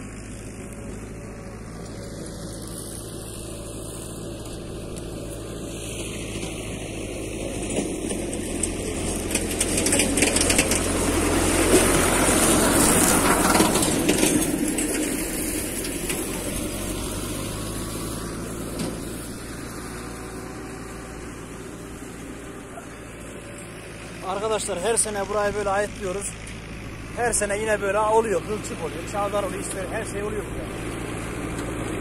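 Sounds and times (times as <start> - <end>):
mower cutting dry grass: 0.0 - 32.0
tractor diesel engine running: 0.0 - 32.0.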